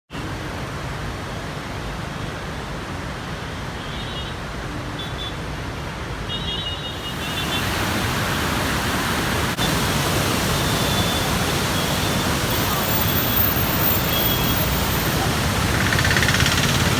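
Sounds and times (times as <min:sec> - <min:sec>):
floodwater rushing: 0:00.2 - 0:16.9.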